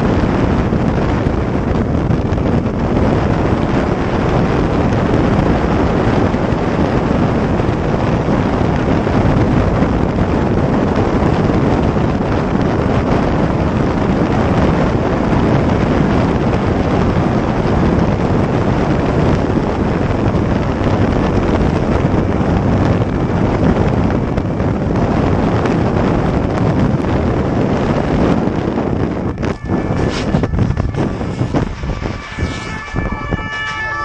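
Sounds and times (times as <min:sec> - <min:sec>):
wind rush over microphone: 0:00.0 - 0:34.0.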